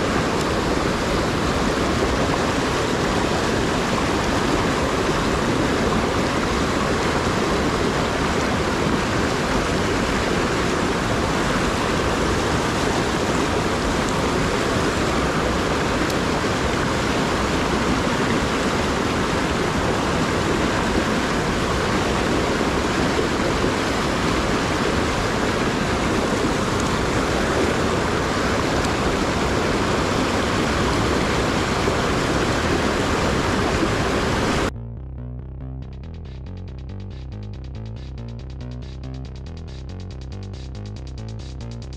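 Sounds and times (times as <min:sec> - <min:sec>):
stream water rushing: 0:00.0 - 0:34.7.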